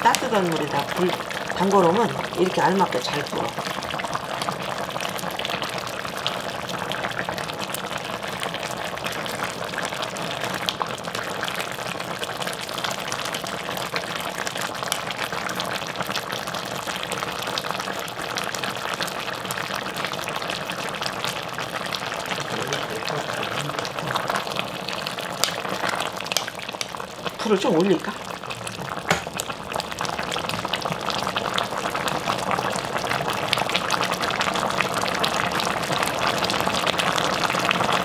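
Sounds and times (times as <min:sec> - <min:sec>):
stew bubbling in a pot: 0:00.0 - 0:38.0.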